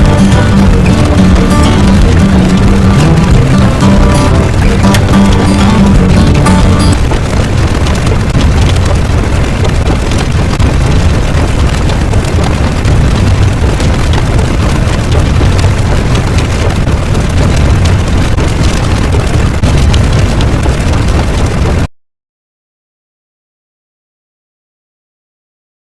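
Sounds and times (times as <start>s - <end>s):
continuous low rumble: 0.0s - 21.9s.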